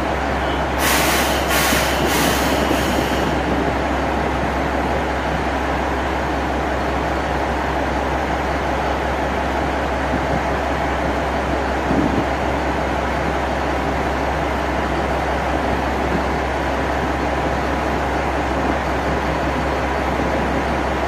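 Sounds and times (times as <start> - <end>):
diesel railcar engine idling: 0.0 - 21.0.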